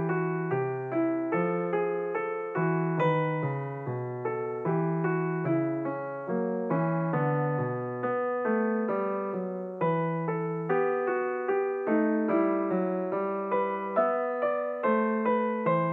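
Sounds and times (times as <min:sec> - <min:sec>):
piano music: 0:00.0 - 0:15.9.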